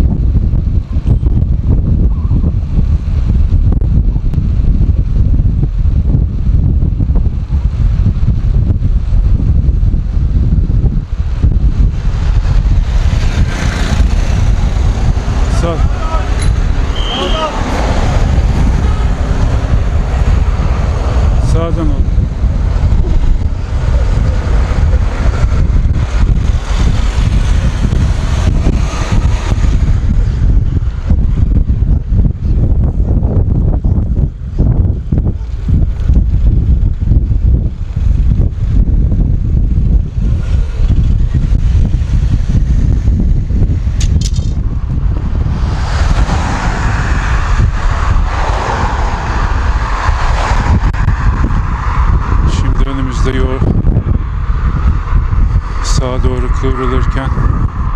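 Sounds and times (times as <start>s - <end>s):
rushing air and road noise: 0.0s - 57.9s
wind buffeting microphone: 0.0s - 57.9s.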